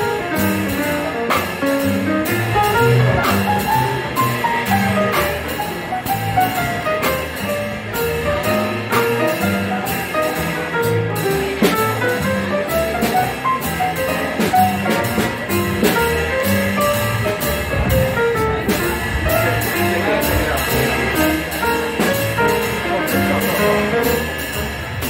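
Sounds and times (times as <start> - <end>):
drums on cymbals: 0.0 - 25.0
piano melody: 0.0 - 25.0
upright bass: 0.0 - 25.0.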